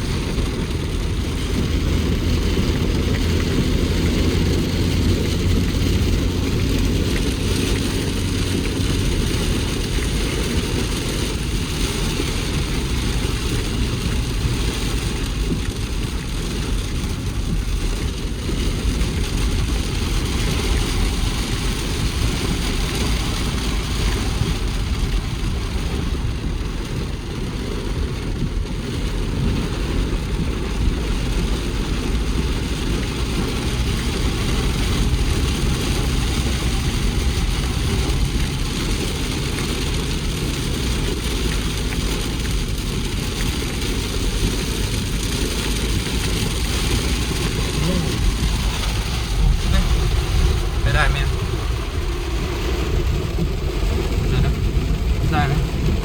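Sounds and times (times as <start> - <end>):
low rumbling noise: 0.0 - 56.0
vehicle engine running: 0.0 - 56.0.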